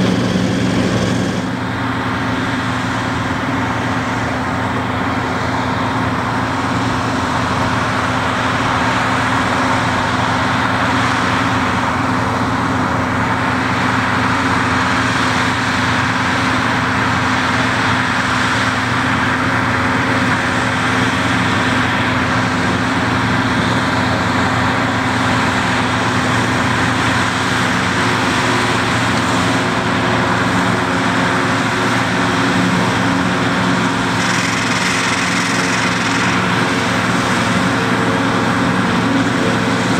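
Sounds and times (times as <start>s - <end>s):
tractor engine with forage harvester: 0.0s - 39.9s.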